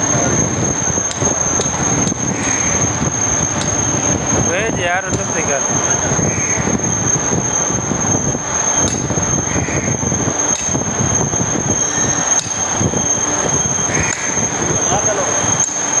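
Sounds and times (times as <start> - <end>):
loud steady whining noise: 0.0 - 16.0.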